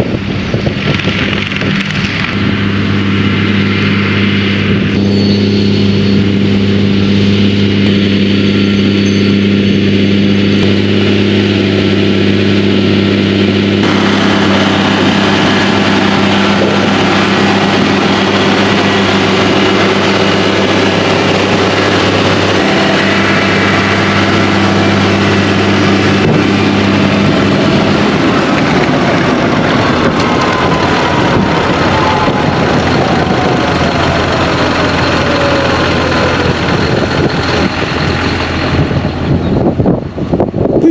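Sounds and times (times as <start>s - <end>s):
road and tyre noise: 0.0s - 40.9s
tractor engine running: 0.0s - 40.9s.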